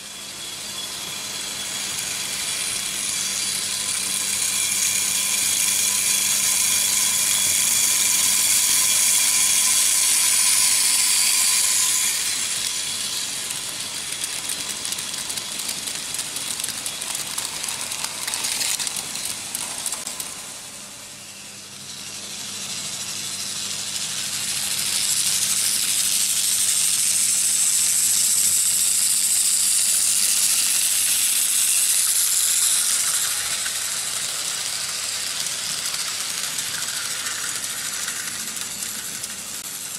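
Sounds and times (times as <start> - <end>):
model train wheels clattering: 1.3 - 21.1, 21.8 - 39.9.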